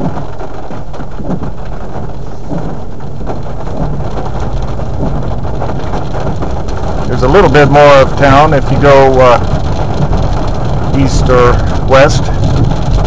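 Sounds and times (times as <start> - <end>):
engine and road noise rumble: 0.0 - 13.0
rain pattering on car roof: 0.0 - 13.0.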